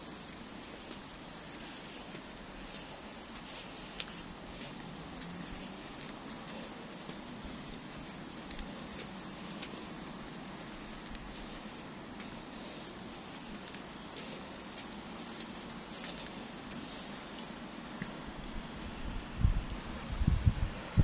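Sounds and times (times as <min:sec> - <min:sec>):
small birds chirping: 0:00.0 - 0:18.2, 0:20.4 - 0:21.0
street noise hiss: 0:00.0 - 0:21.0.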